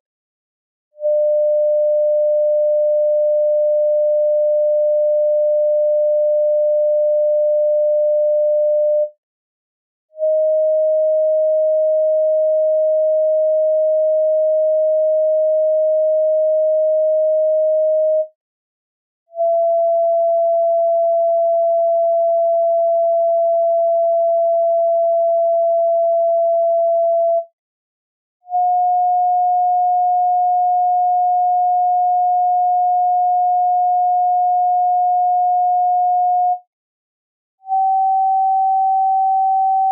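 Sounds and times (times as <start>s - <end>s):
pure sine tones: 1.0s - 9.1s, 10.2s - 18.3s, 19.4s - 27.5s, 28.5s - 36.7s, 37.6s - 39.9s.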